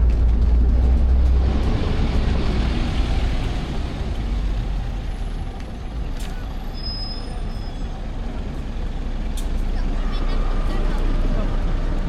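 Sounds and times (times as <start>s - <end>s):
vehicle engine rumbling past: 0.0s - 12.0s.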